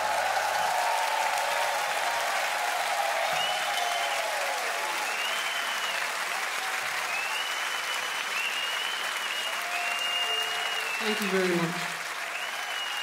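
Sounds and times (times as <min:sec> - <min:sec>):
audience applauding and cheering: 0:00.0 - 0:13.0.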